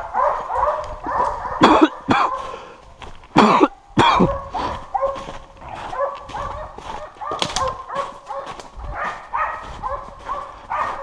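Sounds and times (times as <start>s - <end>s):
dog yelping barks: 0.0s - 2.6s, 3.7s - 11.0s
footsteps crunching in snow: 0.0s - 11.0s.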